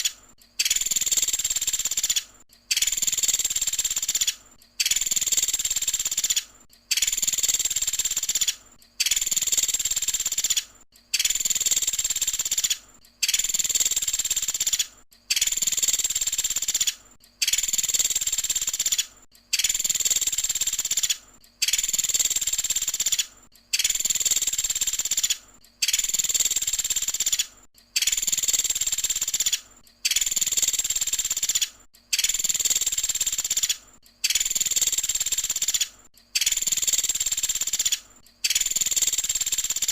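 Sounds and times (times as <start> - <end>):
woodpecker rattling trill: 0.0 - 39.9.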